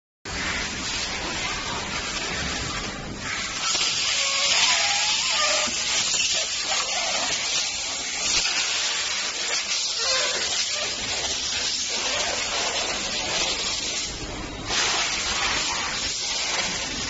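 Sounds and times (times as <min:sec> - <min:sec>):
machinery hiss: 0:00.3 - 0:17.0.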